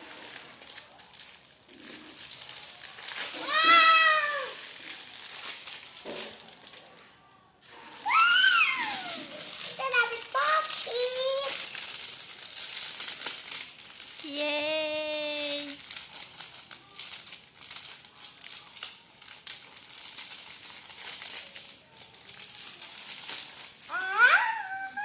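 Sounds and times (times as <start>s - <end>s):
packaging crinkling: 0.0s - 24.0s.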